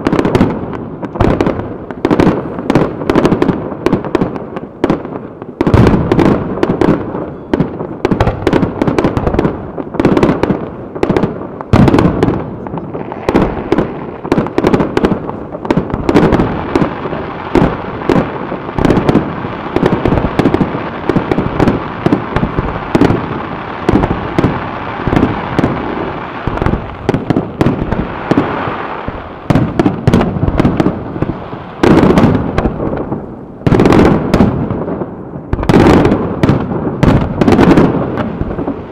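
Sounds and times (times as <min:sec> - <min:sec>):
firework bangs: 0:00.0 - 0:38.9
firework crackle: 0:00.0 - 0:38.9.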